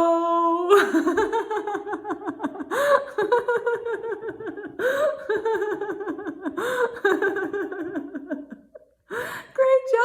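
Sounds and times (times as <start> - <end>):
woman laughing: 0.7 - 8.8.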